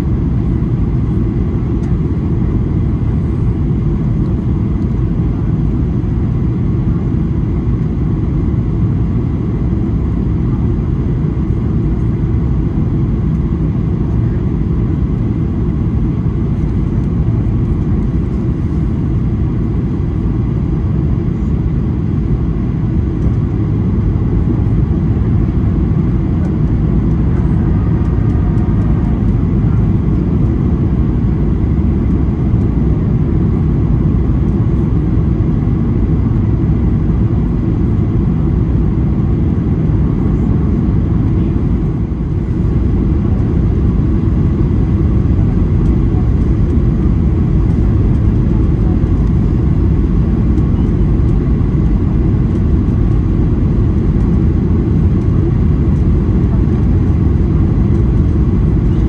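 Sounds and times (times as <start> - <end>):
jet engine roar in cabin: 0.0 - 59.0.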